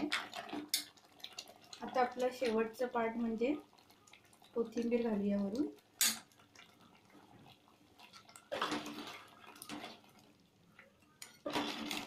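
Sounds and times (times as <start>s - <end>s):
ladle stirring curry in metal pot: 0.0s - 12.0s.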